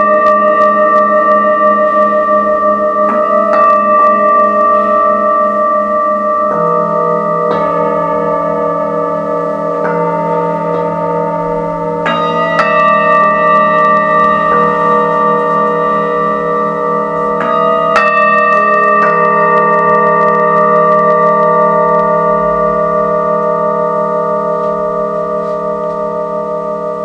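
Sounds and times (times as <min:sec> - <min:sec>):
singing bowls ringing: 0:00.0 - 0:27.0.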